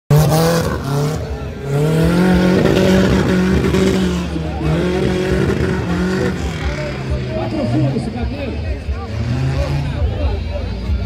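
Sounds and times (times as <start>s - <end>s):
buggy engine revving: 0.1s - 11.0s.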